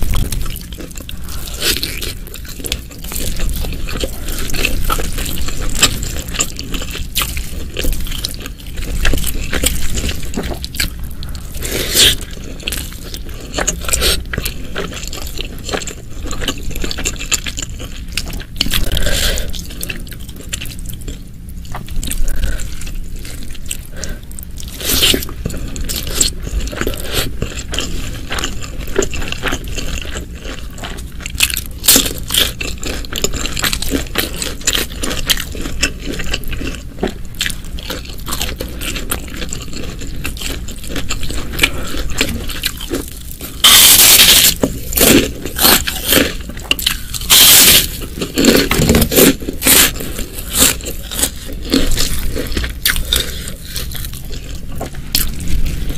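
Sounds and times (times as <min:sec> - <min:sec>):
wet chewing and crunching: 0:00.0 - 0:55.9.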